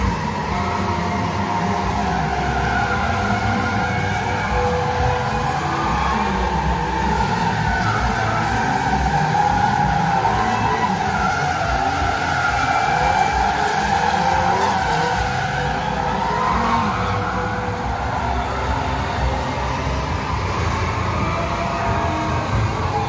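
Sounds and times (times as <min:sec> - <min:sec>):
car engines running: 0:00.0 - 0:23.0
tyres squealing: 0:00.0 - 0:23.0.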